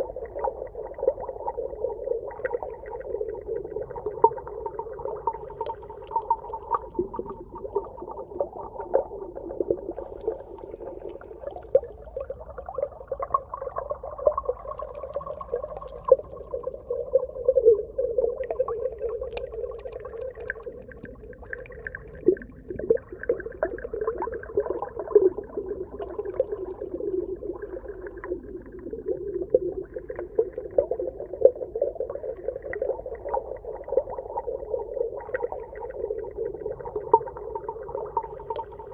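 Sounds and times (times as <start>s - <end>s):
underwater clicks and crackles: 0.0s - 38.9s.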